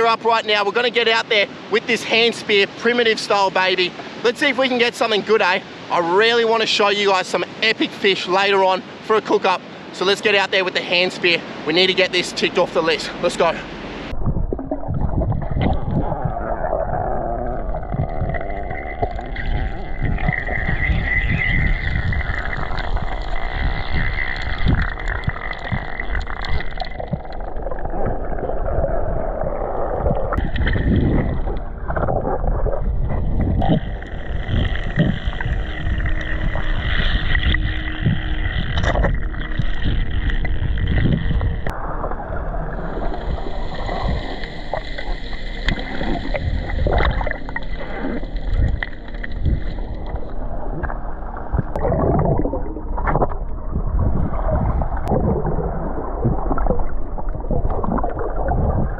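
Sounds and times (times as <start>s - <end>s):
water swirling and bubbling: 0.0s - 58.9s
underwater rumble of moving water: 10.0s - 58.9s.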